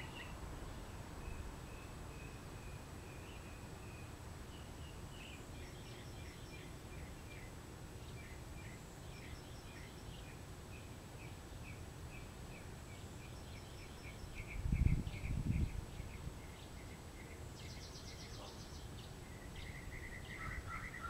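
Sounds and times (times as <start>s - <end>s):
low background noise: 0.0s - 21.0s
songbirds chirping: 0.0s - 21.0s.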